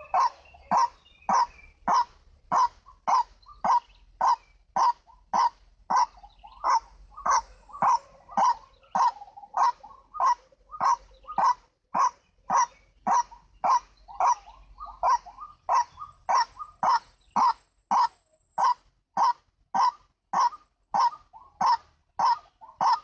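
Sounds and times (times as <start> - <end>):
waterhen calling: 0.0 - 23.0.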